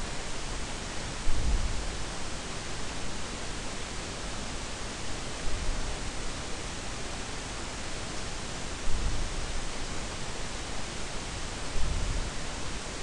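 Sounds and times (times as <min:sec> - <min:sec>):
steady microphone hiss: 0:00.0 - 0:13.0.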